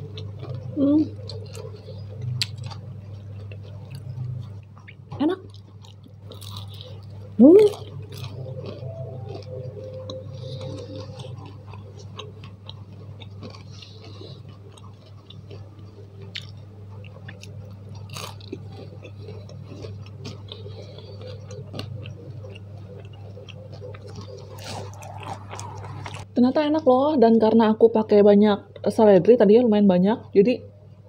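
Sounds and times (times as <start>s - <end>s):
chewing crispy fried food: 0.0s - 26.3s.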